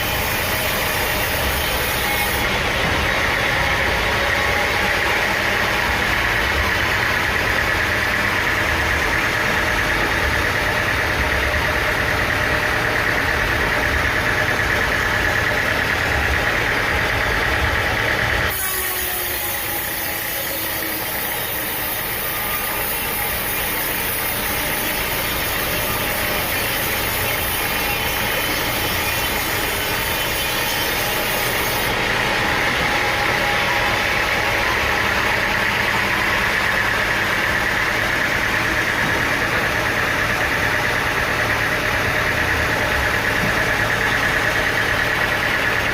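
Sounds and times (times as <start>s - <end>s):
sawmill machinery engine drone: 0.0s - 45.9s.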